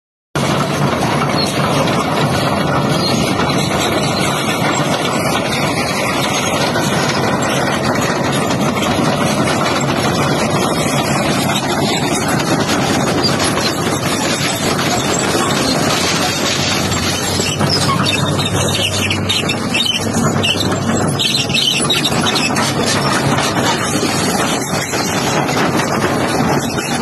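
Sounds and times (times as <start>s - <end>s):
excavator diesel engine running: 0.4s - 27.0s.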